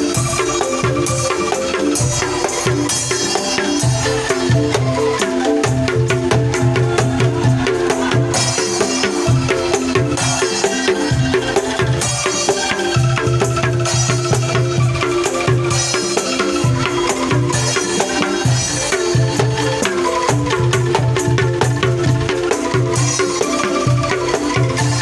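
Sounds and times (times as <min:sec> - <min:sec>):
bamboo tubes rattling notes: 0:00.0 - 0:25.0.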